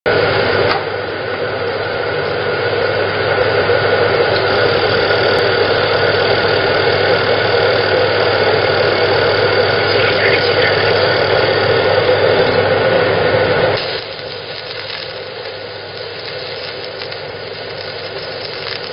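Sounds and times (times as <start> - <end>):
laser marking machine humming: 0.1 - 18.9.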